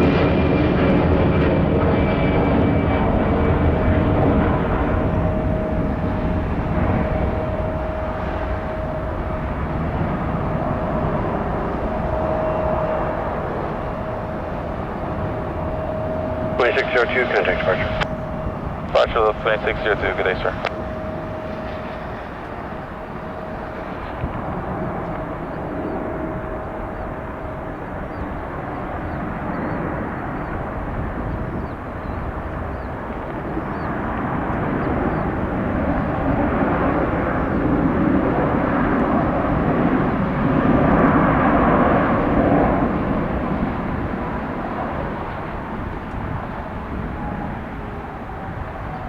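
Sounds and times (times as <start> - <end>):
jet airliner engines rushing: 0.0 - 49.0.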